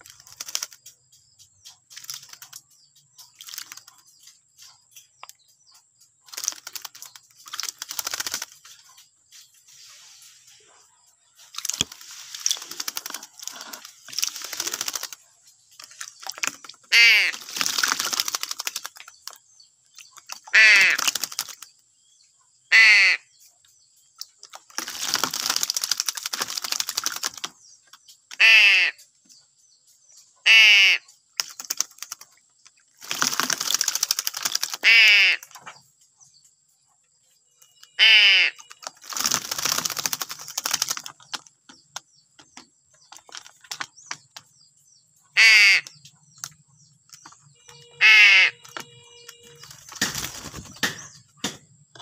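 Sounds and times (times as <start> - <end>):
scratchy bird chattering: 0.0 - 35.9, 37.5 - 52.0
harsh bird calls: 0.0 - 36.4, 37.4 - 52.0.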